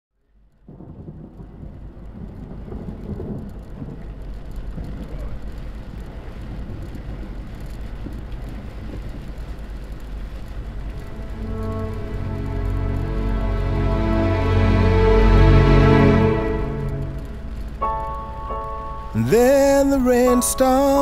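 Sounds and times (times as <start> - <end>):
rain: 0.2 - 21.0
deep rumble: 0.6 - 20.4.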